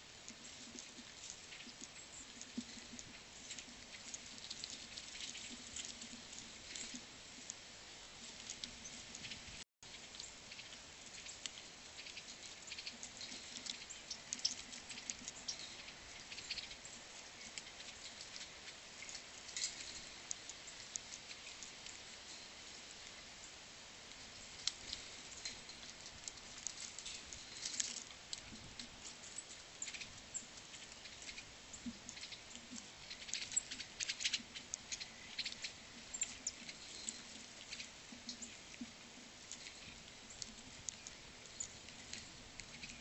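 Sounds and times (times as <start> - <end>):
small birds chipping and ticking: 0.0 - 43.0.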